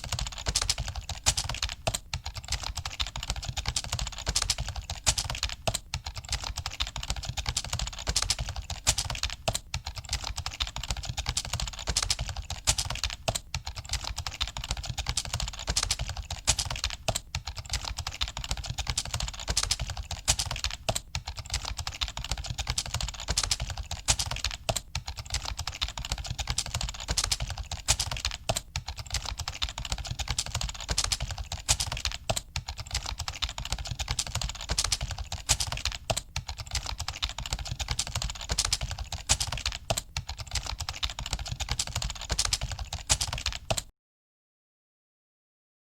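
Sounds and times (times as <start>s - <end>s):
keyboard typing: 0.0s - 43.9s.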